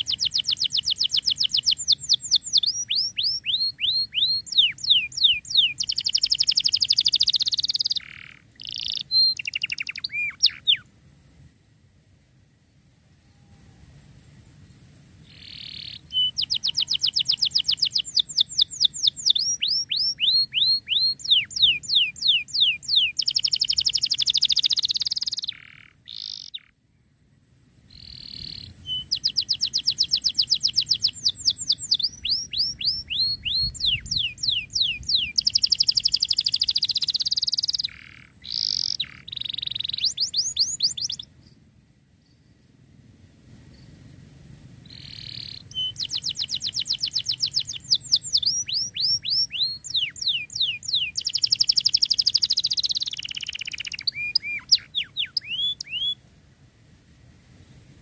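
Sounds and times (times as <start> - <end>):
canary singing: 0.0 - 10.8, 15.3 - 26.7, 27.9 - 41.3, 44.9 - 56.2.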